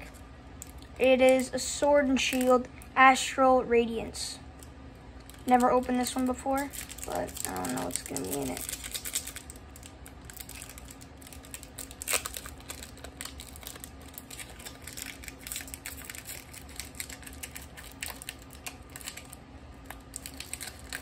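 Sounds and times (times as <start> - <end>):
foil wrapper crinkling and tearing: 0.0 - 2.7, 5.2 - 21.0.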